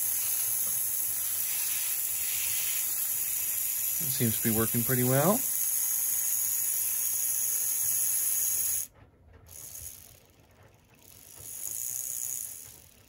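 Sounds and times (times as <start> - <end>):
model locomotive motor whirring: 0.0 - 13.0.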